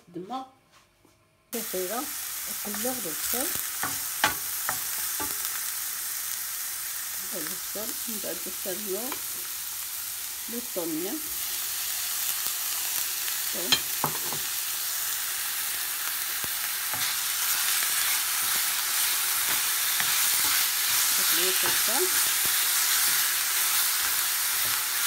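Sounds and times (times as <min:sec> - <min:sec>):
food sizzling in a frying pan: 0:01.6 - 0:25.0.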